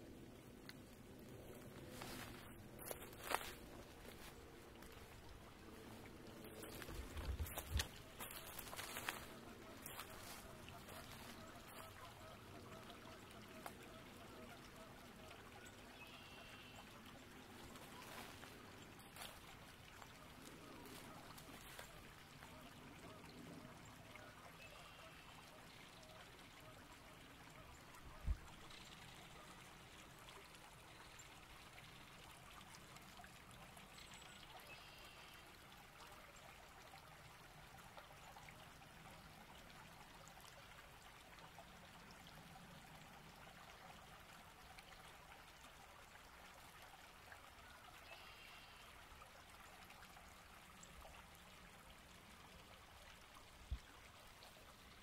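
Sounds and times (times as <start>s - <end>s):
faint trickling stream: 0.0s - 55.0s.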